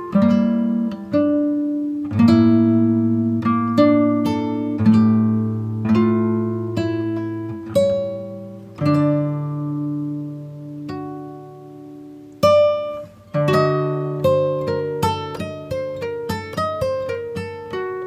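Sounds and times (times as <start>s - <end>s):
acoustic guitar plucking melody: 0.0s - 18.0s.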